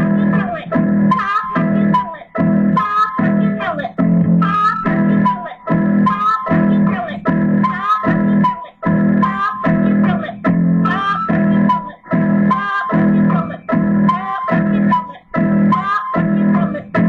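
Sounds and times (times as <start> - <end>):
guitar music with steady beat: 0.0 - 17.0.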